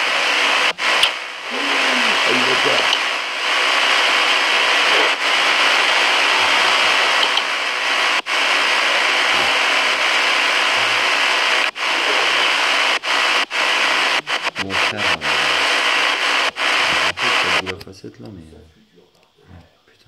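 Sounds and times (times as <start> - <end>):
loud static hiss: 0.0 - 20.0.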